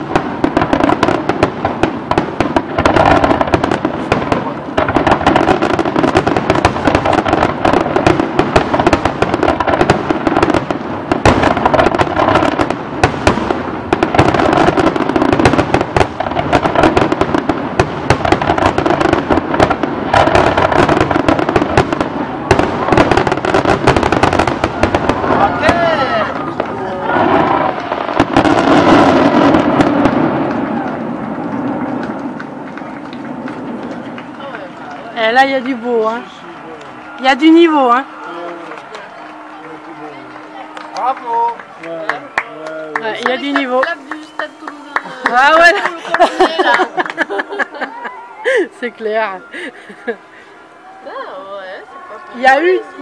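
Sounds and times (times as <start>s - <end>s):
fireworks bursts and crackling: 0.0s - 53.0s.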